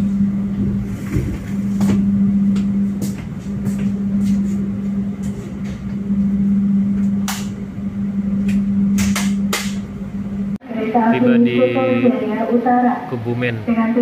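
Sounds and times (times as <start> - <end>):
train carriage hum and rumble: 0.0 - 14.0.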